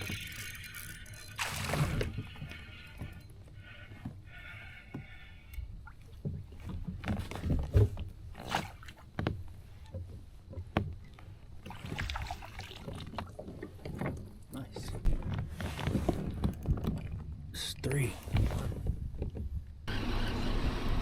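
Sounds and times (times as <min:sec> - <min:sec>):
low rumble of wind or water: 0:00.0 - 0:21.0
knocks and thumps against hull: 0:01.5 - 0:17.5, 0:18.2 - 0:19.8.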